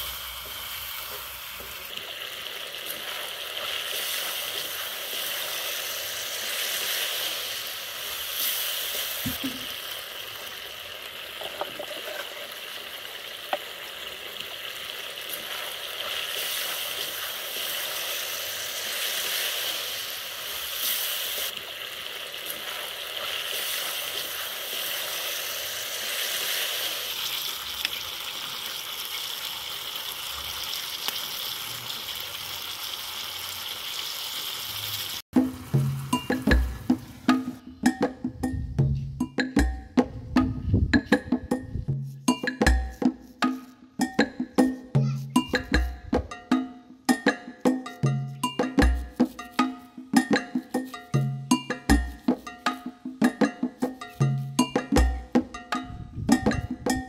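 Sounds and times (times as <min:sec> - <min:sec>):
food sizzling in a pan: 0:00.0 - 0:37.6, 0:47.2 - 0:55.4.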